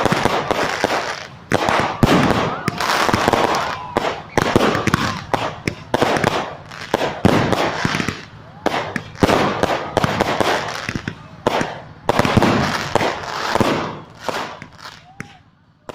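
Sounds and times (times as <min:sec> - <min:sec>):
fireworks bangs and crackles: 0:00.0 - 0:15.9
fireworks hissing: 0:00.0 - 0:15.9.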